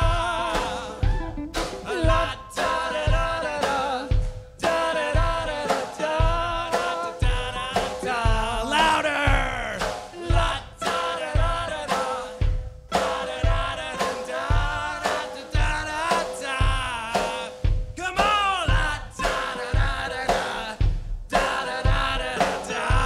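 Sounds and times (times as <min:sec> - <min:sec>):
live folk band music: 0:00.0 - 0:09.2, 0:09.8 - 0:23.0.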